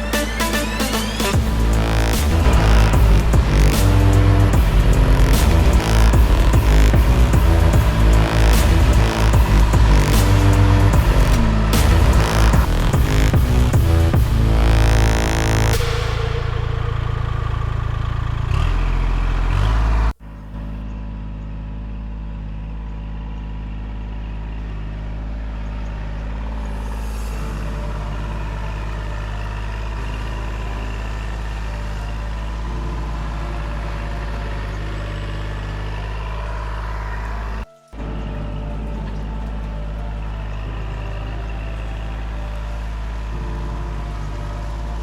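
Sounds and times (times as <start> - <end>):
background music: 0.0 - 18.8, 26.6 - 45.0
tractor diesel engine running: 0.0 - 45.0.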